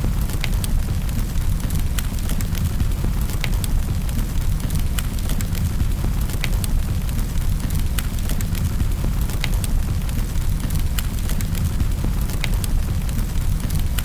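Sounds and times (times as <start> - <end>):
low fire rumble: 0.0 - 14.0.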